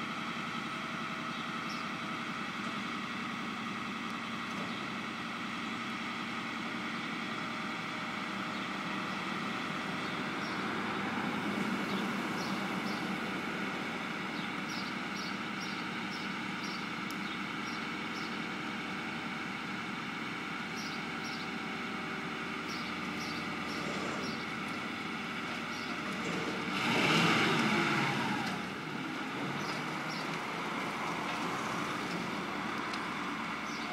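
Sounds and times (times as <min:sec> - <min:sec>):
machinery engine running: 0:00.0 - 0:33.9.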